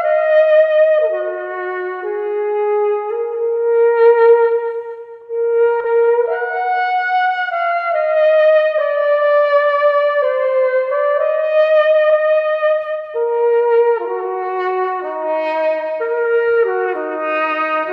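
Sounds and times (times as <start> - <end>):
slow brass melody: 0.0 - 17.9.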